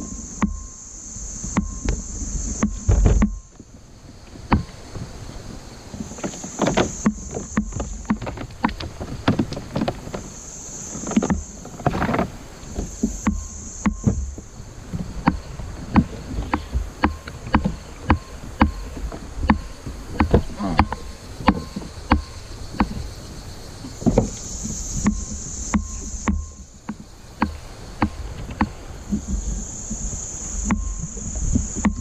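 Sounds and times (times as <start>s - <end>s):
high buzzing: 0.0s - 32.0s
rumble of moving water: 0.0s - 32.0s
knocks on a kayak: 1.4s - 3.7s, 4.4s - 5.2s, 5.9s - 10.4s, 11.0s - 23.2s, 23.8s - 32.0s.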